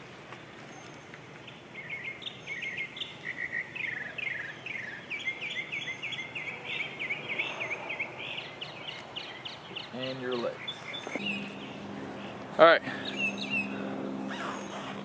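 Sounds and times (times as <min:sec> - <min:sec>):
songbird chirping: 0:00.7 - 0:15.0.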